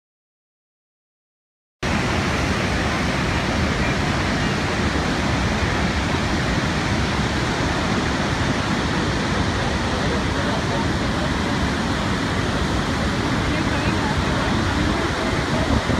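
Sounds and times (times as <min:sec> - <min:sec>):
waterfall roaring: 0:01.8 - 0:15.9.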